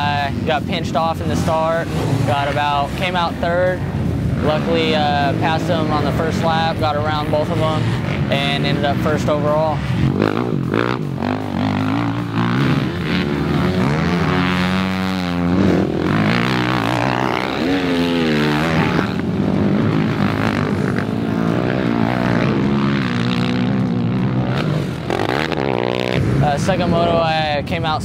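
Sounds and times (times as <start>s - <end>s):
atv engines revving: 0.0s - 28.0s.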